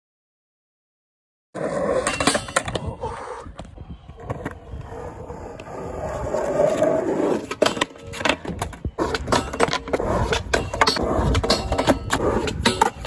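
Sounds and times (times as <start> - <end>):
skateboard wheels on concrete: 1.6 - 13.0
skateboard clacking on ground: 2.0 - 13.0.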